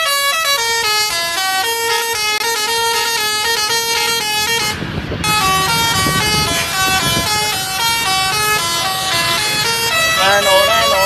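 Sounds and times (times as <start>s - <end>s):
multi-tone bus horn melody: 0.0s - 11.0s.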